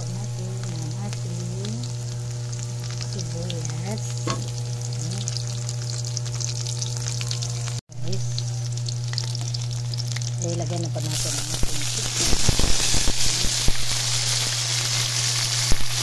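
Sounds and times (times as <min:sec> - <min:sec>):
garlic sizzling in hot oil: 0:00.0 - 0:16.0
steady low hum: 0:00.0 - 0:16.0.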